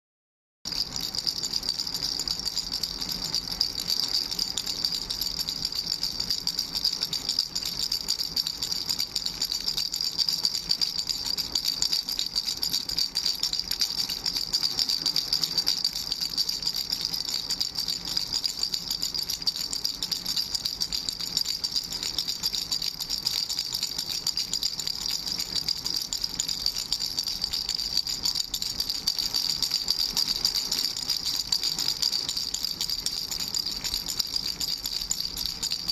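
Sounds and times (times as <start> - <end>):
baby rattle shaking: 0.7 - 35.9.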